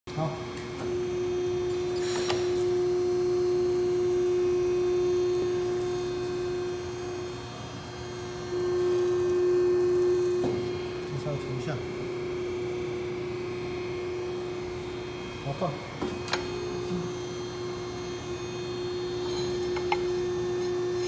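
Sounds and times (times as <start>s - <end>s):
machine electric hum: 0.1s - 21.0s.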